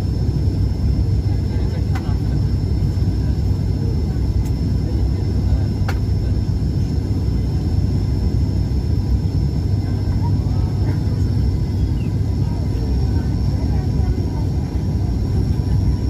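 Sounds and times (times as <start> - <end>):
airliner engine rumble: 0.0 - 16.0.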